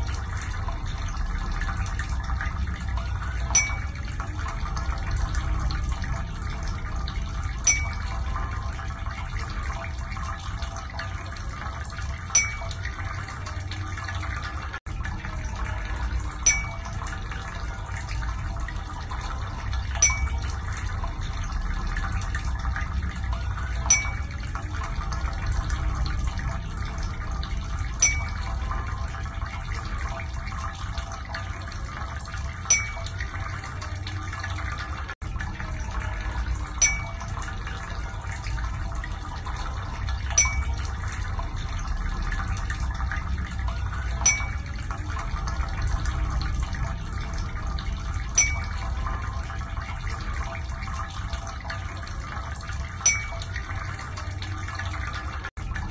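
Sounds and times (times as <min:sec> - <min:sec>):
running water: 0:00.0 - 0:55.9.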